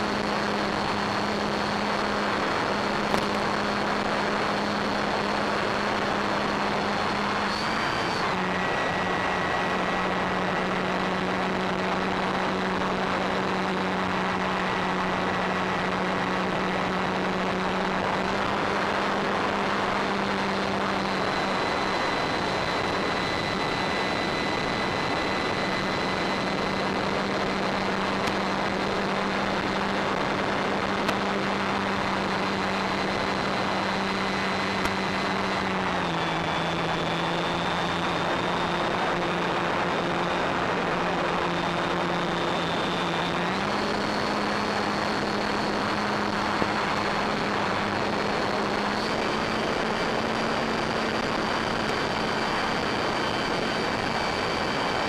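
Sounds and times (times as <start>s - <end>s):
electric motor and propeller humming: 0.0s - 55.0s
rush of noise: 0.0s - 55.0s.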